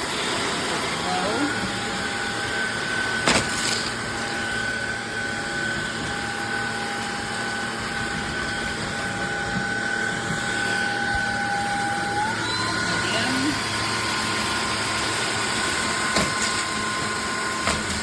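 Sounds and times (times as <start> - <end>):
stick vacuum cleaner running: 0.0 - 18.0.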